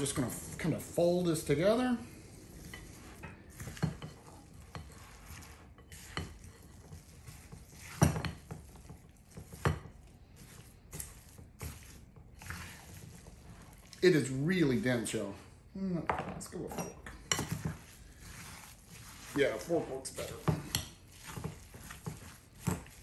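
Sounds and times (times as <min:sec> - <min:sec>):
spatula scraping batter in bowl: 0:00.0 - 0:15.5, 0:16.6 - 0:23.0.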